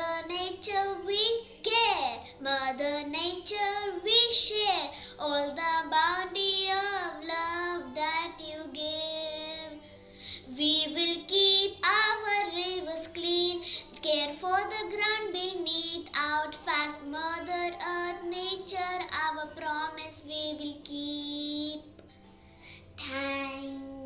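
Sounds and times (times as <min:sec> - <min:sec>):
child singing: 0:00.0 - 0:09.8, 0:10.4 - 0:21.9, 0:23.0 - 0:24.0.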